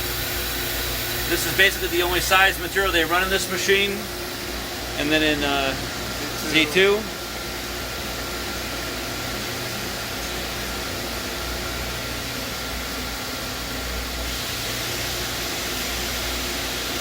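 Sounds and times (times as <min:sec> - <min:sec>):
lathe machine hum and whir: 0:00.0 - 0:17.0.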